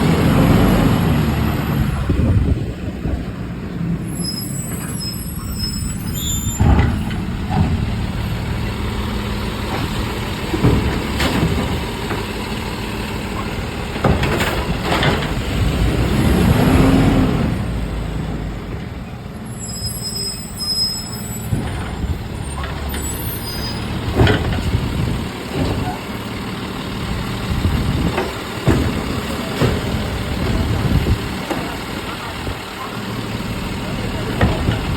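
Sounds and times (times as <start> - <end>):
garbage truck engine running: 0.0 - 34.9.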